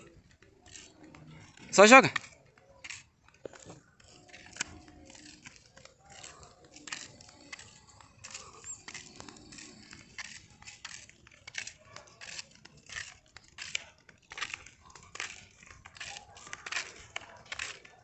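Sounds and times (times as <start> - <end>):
scratchy rasping and crinkling: 0.0 - 18.0.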